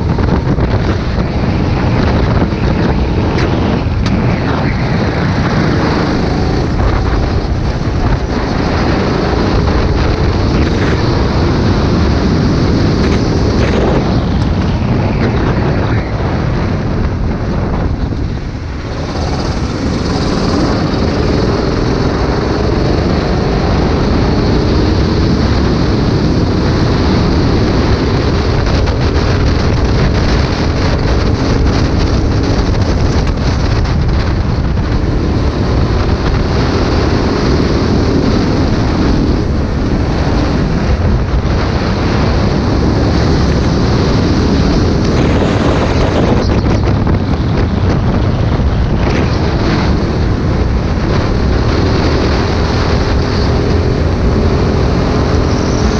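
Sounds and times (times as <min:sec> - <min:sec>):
go-kart engine at speed: 0:00.0 - 0:55.9
wind noise on microphone: 0:00.0 - 0:55.9.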